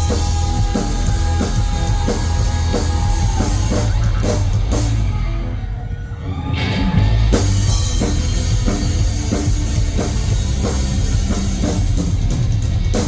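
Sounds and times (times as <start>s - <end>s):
drum kit steady beat: 0.0s - 5.3s, 6.7s - 13.0s
rock band playing: 0.0s - 13.0s.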